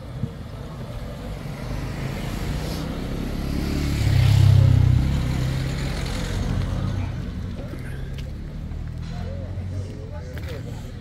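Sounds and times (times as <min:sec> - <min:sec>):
vehicle engine passing by: 0:01.0 - 0:11.0.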